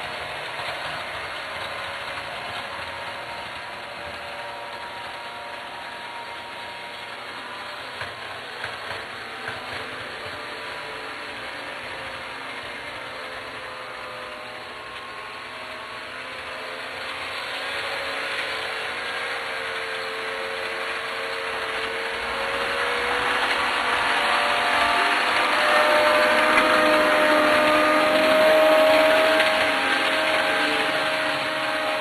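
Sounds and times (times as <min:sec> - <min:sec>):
model train motor whine: 0:00.0 - 0:32.0
model train wheel noise: 0:00.0 - 0:32.0.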